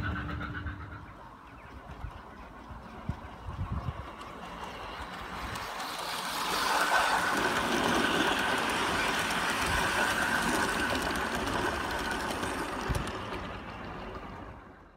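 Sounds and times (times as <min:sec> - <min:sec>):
model train rolling on rails: 0:00.0 - 0:14.9.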